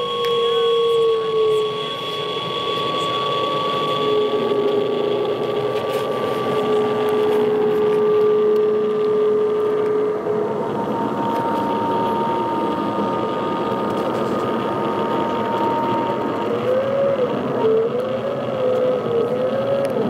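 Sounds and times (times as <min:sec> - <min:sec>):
electronic drone of steady tones: 0:00.0 - 0:20.0.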